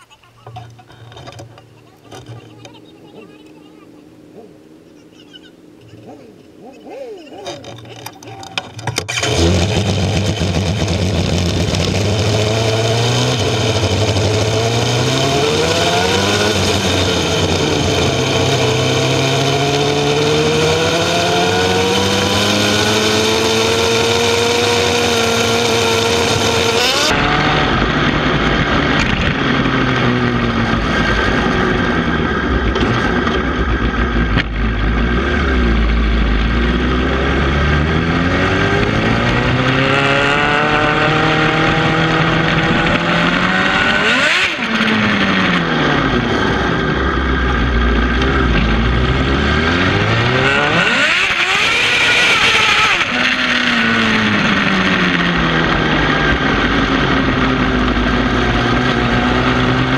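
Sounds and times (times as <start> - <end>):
motorcycle engines accelerating: 0.0 - 59.9.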